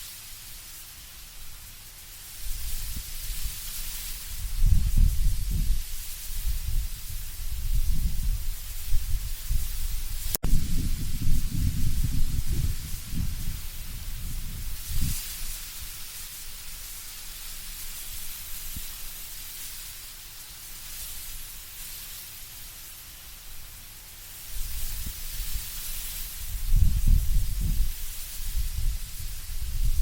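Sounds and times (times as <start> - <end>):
wind rustling leaves: 0.0 - 30.0.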